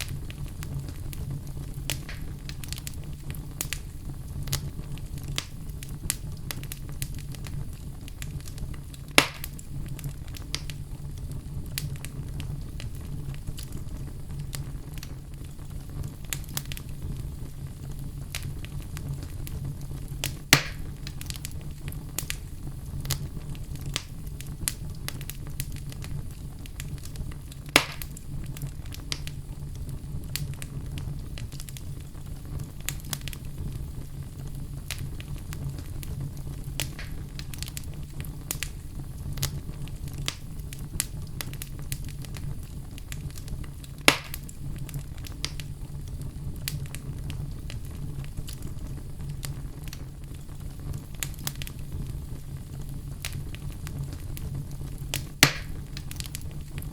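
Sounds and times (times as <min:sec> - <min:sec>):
fire pops: 0:00.0 - 0:56.9
wood fire crackling: 0:00.0 - 0:56.9.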